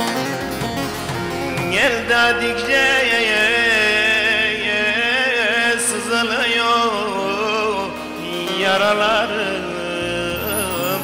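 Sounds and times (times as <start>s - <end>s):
instrumental accompaniment: 0.0s - 11.0s
man singing folk song: 1.4s - 11.0s.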